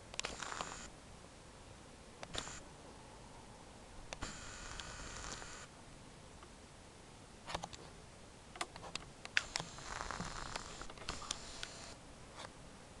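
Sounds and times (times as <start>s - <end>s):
low hiss: 0.0s - 13.0s.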